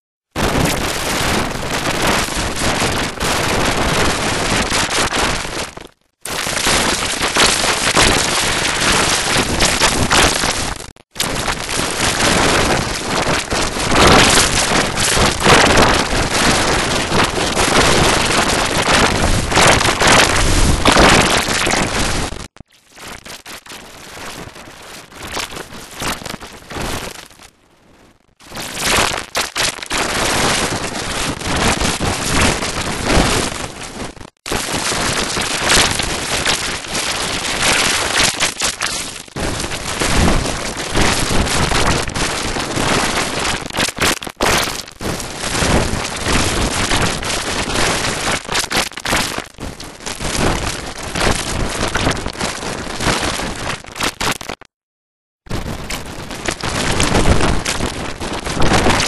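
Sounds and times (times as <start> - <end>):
heavily distorted harsh noise: 0.4 - 27.4, 28.1 - 54.7, 55.5 - 59.0.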